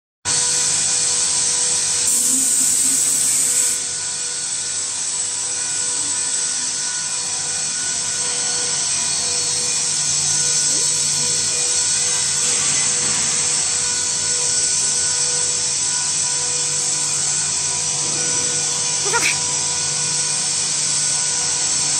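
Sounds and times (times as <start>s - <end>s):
electric machinery whine: 0.3s - 21.9s.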